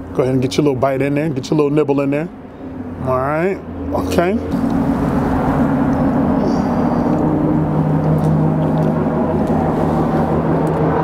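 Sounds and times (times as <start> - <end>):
road traffic rumble: 0.0 - 11.0
vehicle engine humming: 0.0 - 11.0.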